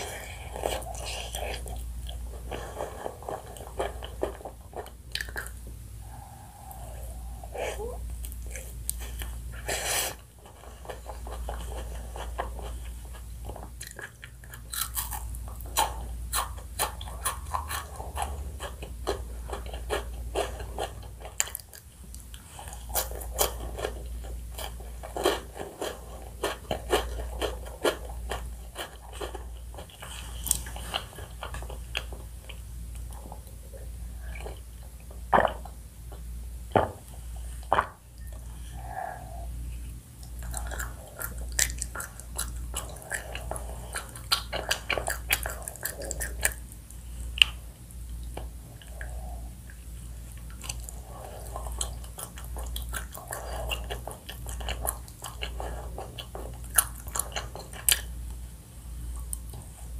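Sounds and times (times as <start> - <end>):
person chewing crunchy food: 0.0 - 36.3, 37.1 - 58.4.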